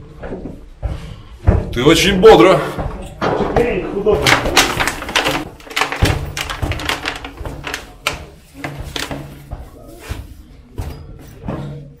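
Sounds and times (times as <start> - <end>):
knocks and thumps: 0.0 - 1.8, 2.7 - 12.0.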